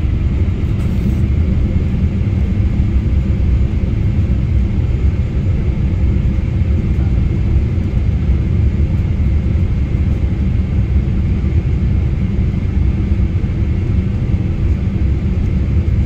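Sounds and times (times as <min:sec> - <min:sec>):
rumble of engines and airflow: 0:00.0 - 0:16.0.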